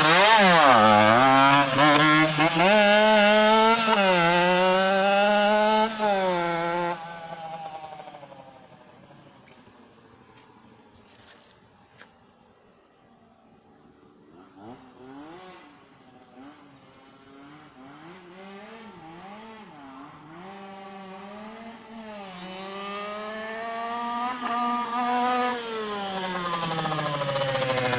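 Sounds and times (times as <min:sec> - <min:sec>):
two-stroke motorbike engine revving: 0:00.0 - 0:12.1, 0:14.2 - 0:27.9.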